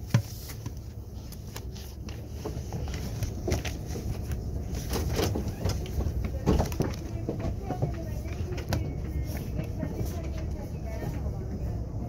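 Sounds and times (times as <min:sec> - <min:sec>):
low rumble inside train cabin: 0:00.0 - 0:12.0.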